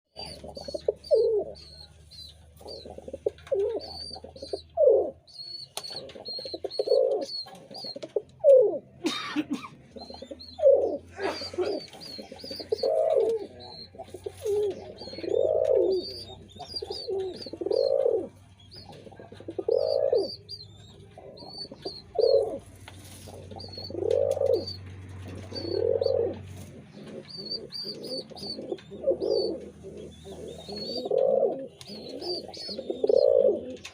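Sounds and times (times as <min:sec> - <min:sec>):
birds chirping rapidly: 0:00.1 - 0:33.9
pigeons cooing: 0:00.1 - 0:33.9.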